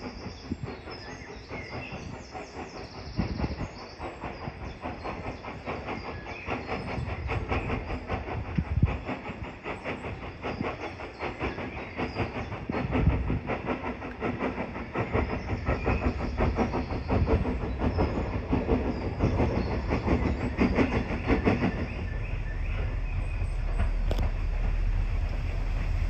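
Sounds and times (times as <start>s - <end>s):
train running by: 0.0s - 26.0s.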